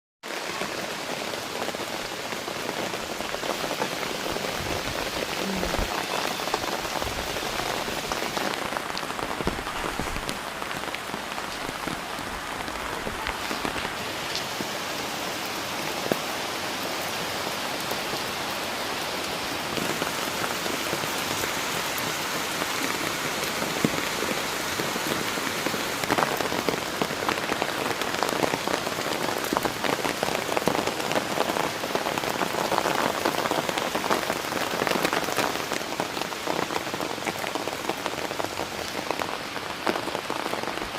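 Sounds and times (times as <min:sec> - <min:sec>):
raindrops ticking on surfaces: 0:00.2 - 0:40.9
rain hissing: 0:00.3 - 0:40.9.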